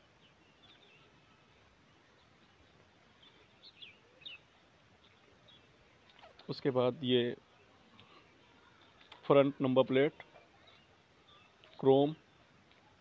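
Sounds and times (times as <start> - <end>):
faint high bird chirps: 0.0 - 6.6, 7.5 - 13.0.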